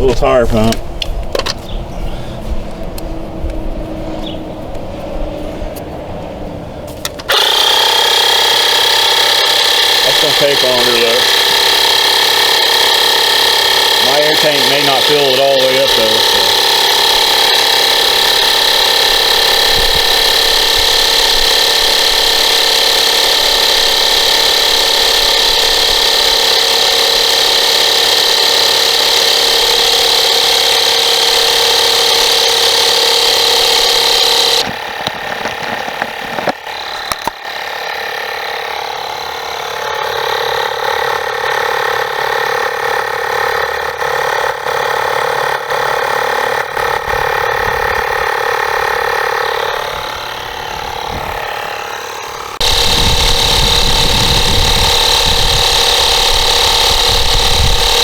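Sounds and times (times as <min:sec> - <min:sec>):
air pump running: 0:00.0 - 0:58.0.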